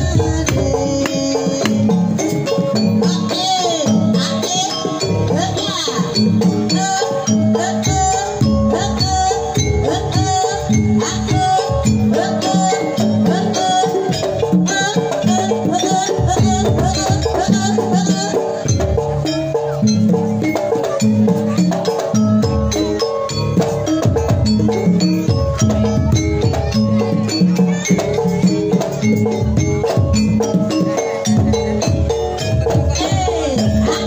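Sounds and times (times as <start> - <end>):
drums in a steady beat: 0.0 - 34.0
pitched metal percussion: 0.0 - 34.0.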